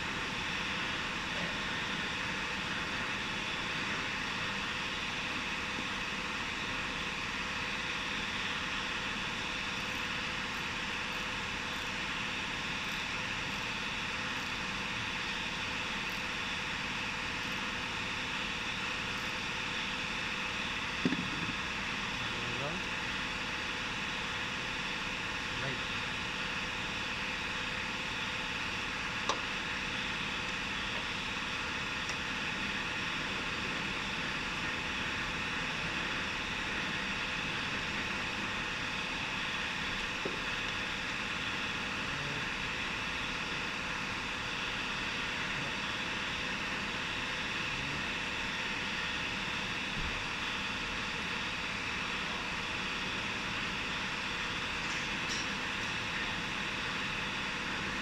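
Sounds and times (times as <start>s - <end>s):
machine hiss and hum: 0.0s - 58.0s.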